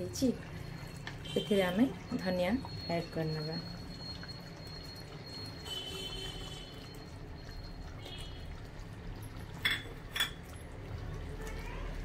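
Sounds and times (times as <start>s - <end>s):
curry gravy bubbling: 0.0s - 12.0s.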